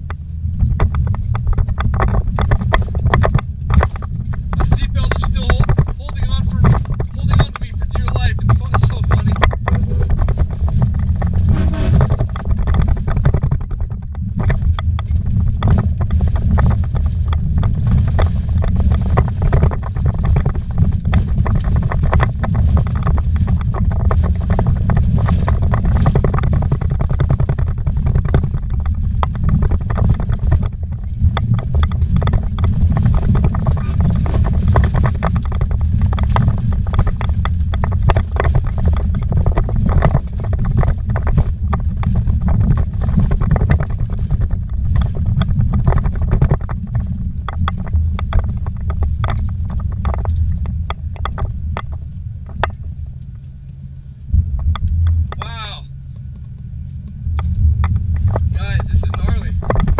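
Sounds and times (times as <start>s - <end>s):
knocks and rattles from bumpy track: 0.0s - 53.4s, 54.3s - 56.6s, 57.3s - 59.9s
tyres and engine rumbling: 0.0s - 59.9s.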